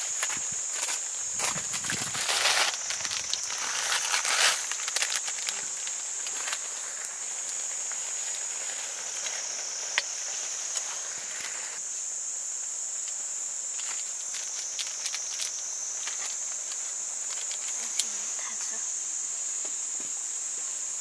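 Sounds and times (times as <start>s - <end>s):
rustling: 0.0s - 12.1s, 13.0s - 18.3s
insects chirring: 0.0s - 21.0s.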